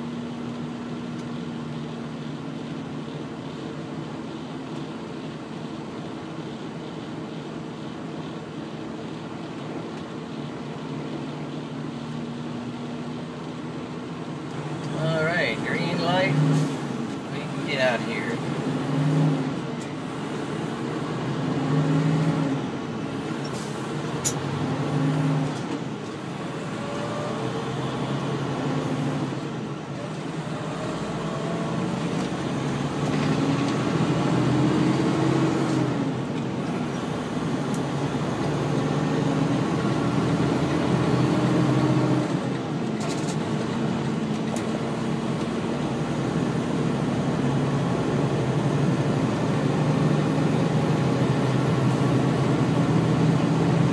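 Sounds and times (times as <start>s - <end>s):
diesel truck engine: 0.0s - 53.9s
tyres and wind rushing: 0.0s - 53.9s.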